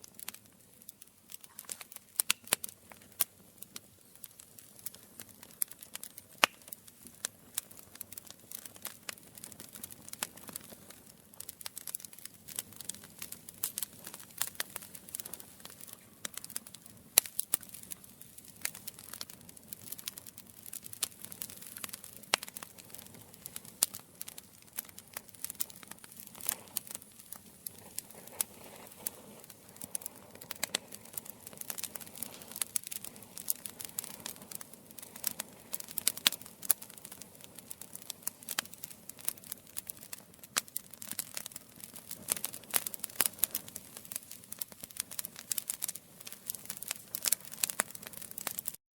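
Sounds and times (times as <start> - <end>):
wood fire crackling: 0.0 - 48.8.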